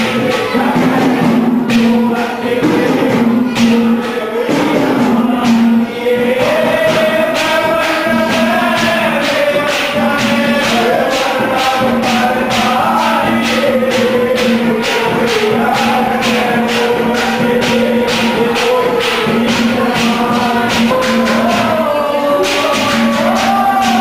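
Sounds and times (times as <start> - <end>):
person singing folk melody: 0.0 - 24.0
sharp percussion strokes: 0.0 - 24.0.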